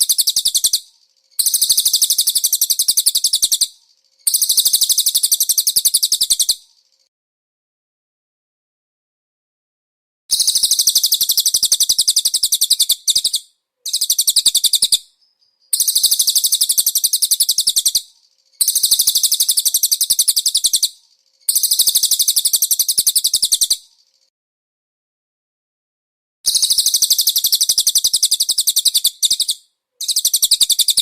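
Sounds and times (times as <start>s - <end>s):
bird song with rapid high trills: 0.0s - 7.1s, 10.3s - 24.3s, 26.5s - 31.0s.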